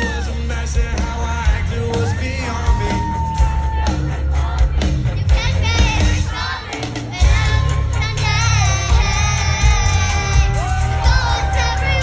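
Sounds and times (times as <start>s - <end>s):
live concert music with heavy bass: 0.0s - 12.0s
person singing: 0.0s - 12.0s.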